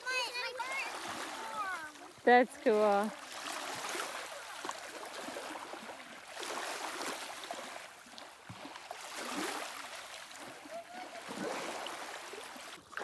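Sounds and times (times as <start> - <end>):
children wading through water: 0.0 - 13.0.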